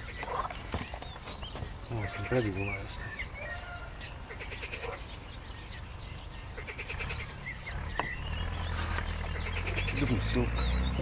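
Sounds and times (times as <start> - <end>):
birds chirping: 0.0 - 11.0
frogs croaking: 0.0 - 11.0.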